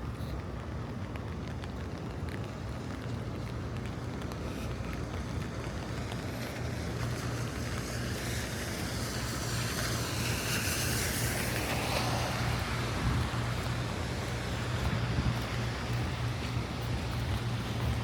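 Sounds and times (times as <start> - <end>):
steady rain: 0.0 - 18.0
tyres hissing on wet road: 2.2 - 18.0.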